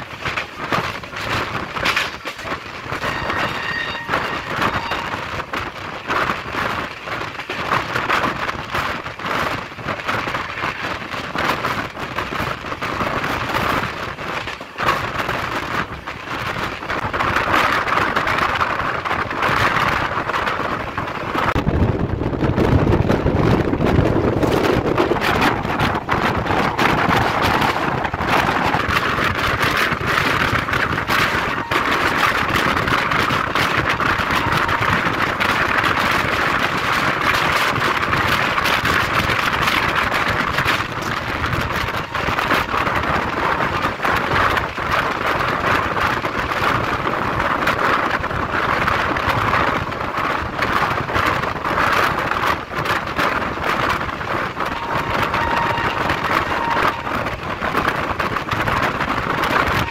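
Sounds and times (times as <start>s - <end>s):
rush of wind: 0.0s - 59.9s
train wheels rolling and rattling: 0.0s - 59.9s.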